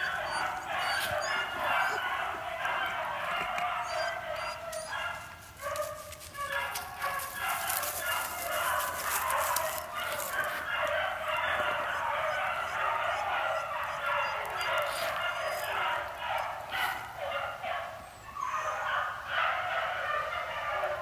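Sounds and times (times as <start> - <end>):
pack of dogs baying: 0.0 - 21.0.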